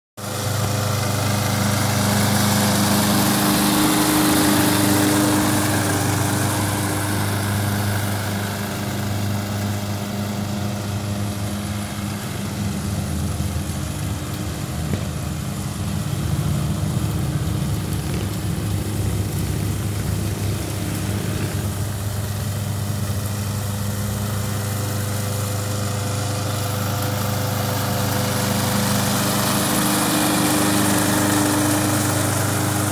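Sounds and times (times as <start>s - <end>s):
lawn mower engine running: 0.2s - 32.9s.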